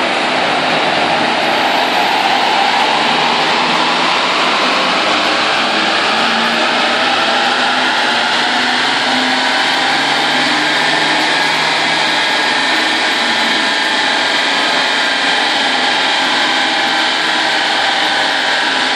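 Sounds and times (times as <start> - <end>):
large cooling fans: 0.0 - 18.9.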